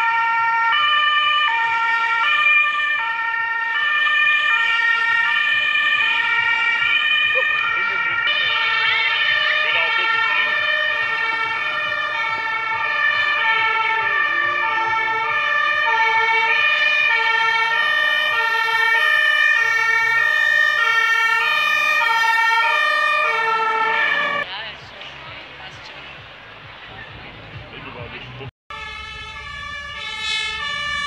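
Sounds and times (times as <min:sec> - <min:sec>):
two-tone emergency siren: 0:00.0 - 0:24.5, 0:28.7 - 0:31.0.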